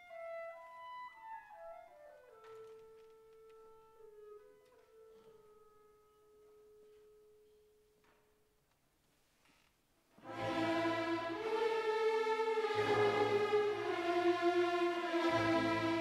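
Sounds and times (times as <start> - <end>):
soft woodwind line: 0.0 - 7.4, 10.2 - 16.0.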